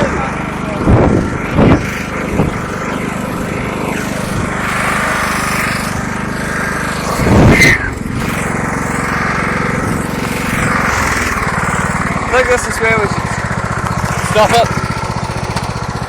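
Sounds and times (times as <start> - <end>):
ride-on lawnmower engine running: 0.0 - 16.0.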